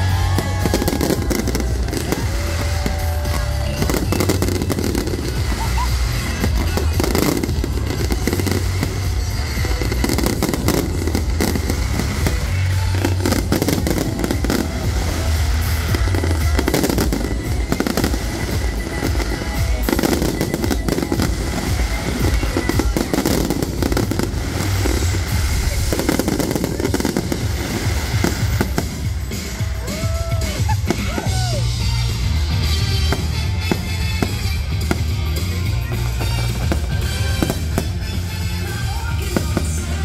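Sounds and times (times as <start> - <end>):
fireworks bursting and crackling: 0.0 - 40.0
music playing: 0.0 - 40.0.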